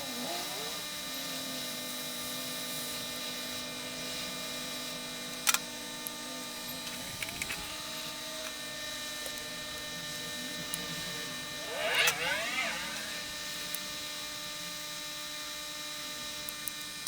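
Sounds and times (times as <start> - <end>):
equipment whirring hum: 0.0 - 17.0.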